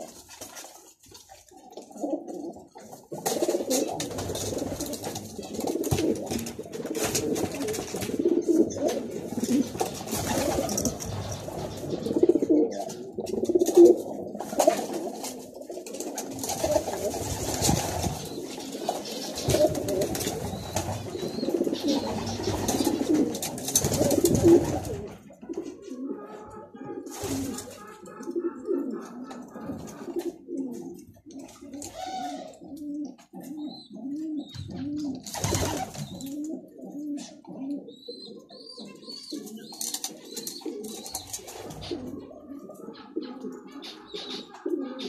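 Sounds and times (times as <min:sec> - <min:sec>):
pigeon cooing: 0:01.7 - 0:45.0.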